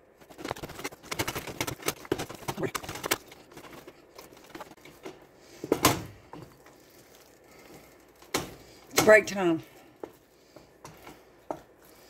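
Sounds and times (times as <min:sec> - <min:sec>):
wooden spoon beating dough: 0:00.0 - 0:12.0.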